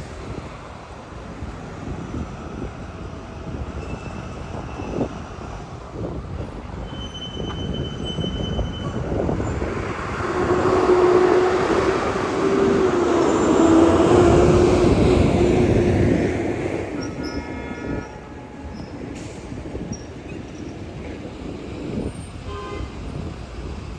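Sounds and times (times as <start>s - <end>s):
bus driving past: 0.0s - 23.9s.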